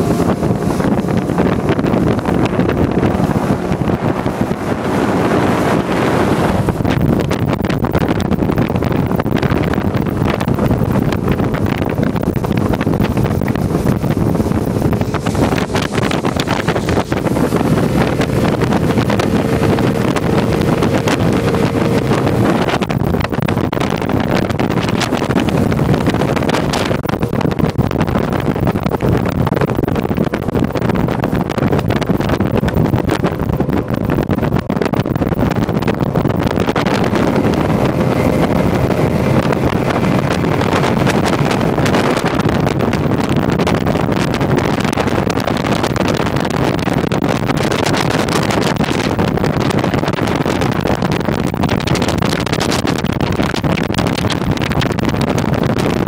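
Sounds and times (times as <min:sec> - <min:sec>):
boat hull rushing through water: 0:00.0 - 0:56.0
outboard motor hum: 0:00.0 - 0:56.0
wind buffeting microphone: 0:00.0 - 0:56.0.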